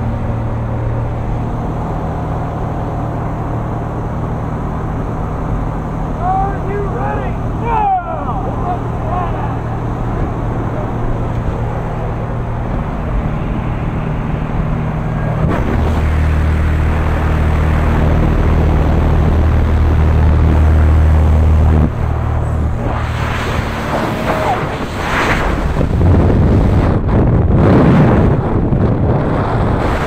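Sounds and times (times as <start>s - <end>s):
gusting wind noise: 0.0s - 30.0s
propeller engine drone: 0.0s - 30.0s
air rushing: 5.2s - 30.0s.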